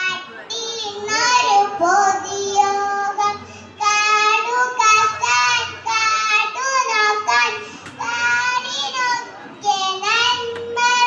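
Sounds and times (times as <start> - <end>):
child singing into a microphone: 0.0 - 11.0.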